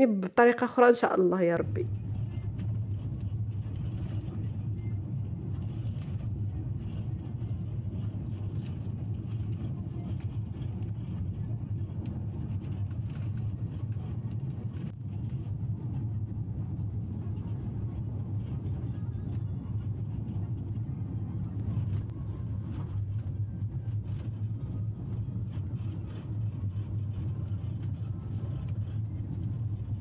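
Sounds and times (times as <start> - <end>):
minibus engine and road rumble: 1.6 - 30.0.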